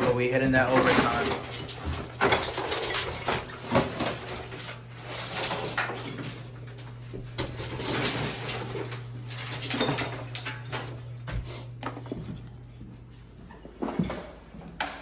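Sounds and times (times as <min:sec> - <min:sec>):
hand tools knocking and scraping: 0:00.0 - 0:15.0.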